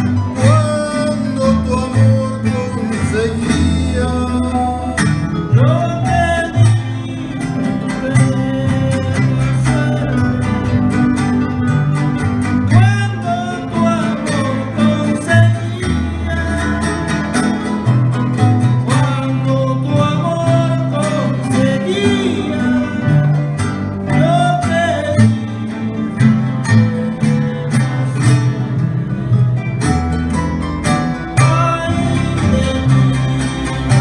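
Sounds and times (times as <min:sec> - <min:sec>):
man singing: 0:00.0 - 0:11.7, 0:12.6 - 0:17.9, 0:18.7 - 0:28.2, 0:31.2 - 0:34.0
guitars strummed: 0:00.0 - 0:34.0
plucked harp bass notes: 0:00.0 - 0:34.0.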